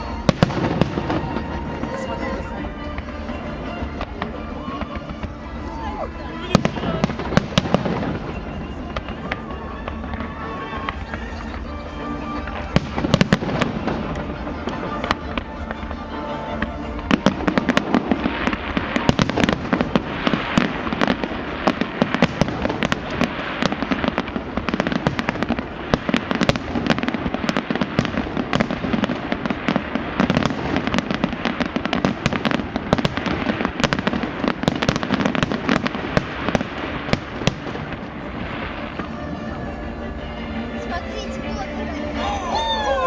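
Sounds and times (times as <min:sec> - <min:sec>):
fireworks bangs and crackles: 0:00.0 - 0:43.0
music playing: 0:00.0 - 0:43.0.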